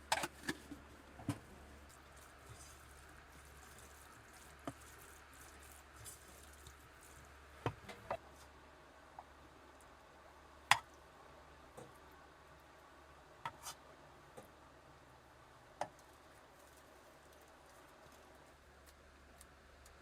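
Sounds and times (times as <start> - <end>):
faint steady low hum: 0.0 - 20.0.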